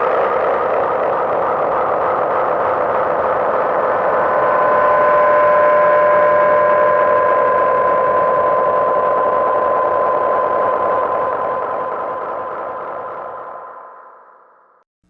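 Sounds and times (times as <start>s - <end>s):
synthesizer drone: 0.0s - 14.8s.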